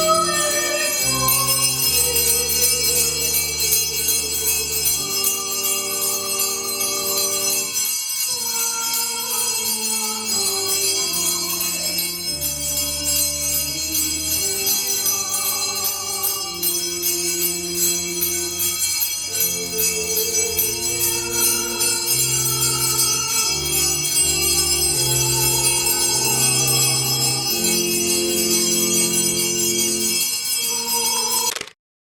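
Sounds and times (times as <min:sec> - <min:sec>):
slow church music chords: 0:00.0 - 0:07.9, 0:10.2 - 0:30.7.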